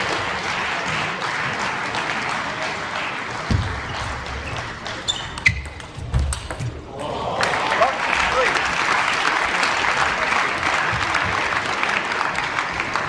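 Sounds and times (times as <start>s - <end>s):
crowd applauding: 0.0s - 5.2s, 6.8s - 13.0s.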